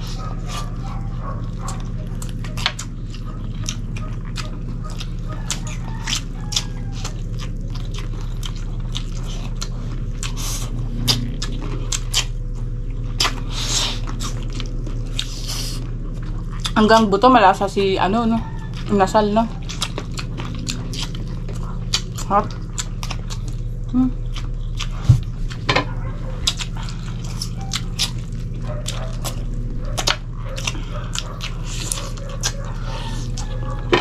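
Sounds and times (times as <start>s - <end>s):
people chewing and smacking: 0.0s - 34.0s
steady low hum: 0.0s - 34.0s.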